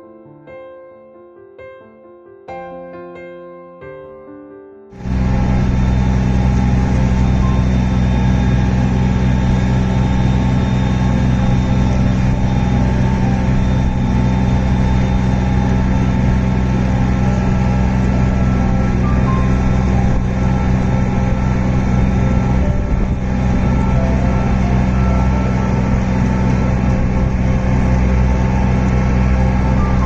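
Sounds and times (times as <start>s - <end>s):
boat engine droning: 5.0s - 30.0s.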